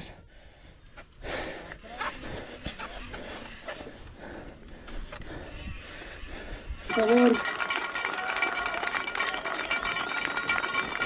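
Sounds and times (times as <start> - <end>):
bike frame and chain rattling: 1.8 - 11.0.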